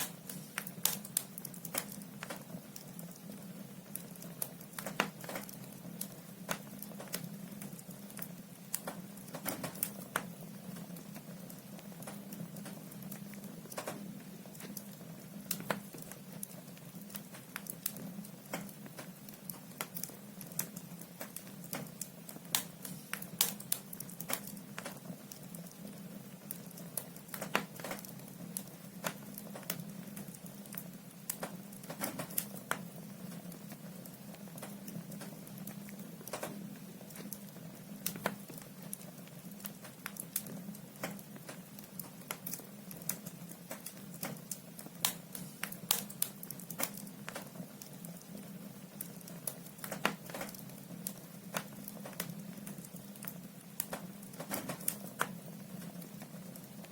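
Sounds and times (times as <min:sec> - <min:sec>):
logs crackling in fireplace: 0:00.0 - 0:56.9.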